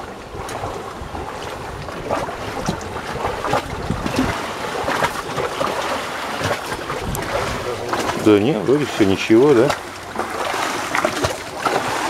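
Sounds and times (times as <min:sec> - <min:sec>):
waves slapping against boat hull: 0:00.0 - 0:12.0
wind buffeting microphone: 0:00.0 - 0:12.0.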